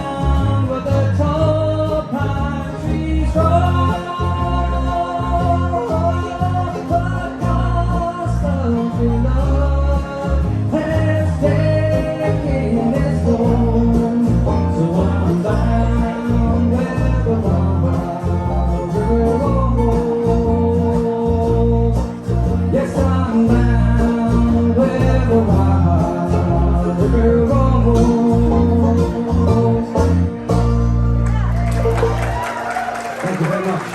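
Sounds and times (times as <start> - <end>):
person singing: 0.0 - 30.1
plucked acoustic strings: 0.0 - 32.4.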